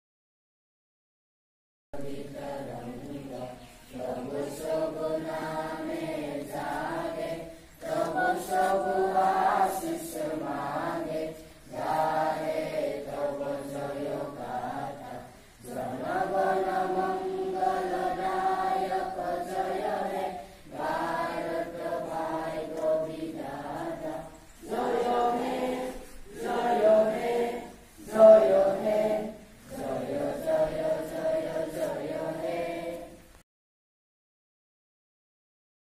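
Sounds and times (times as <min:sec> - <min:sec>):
children singing in unison: 0:02.0 - 0:33.4.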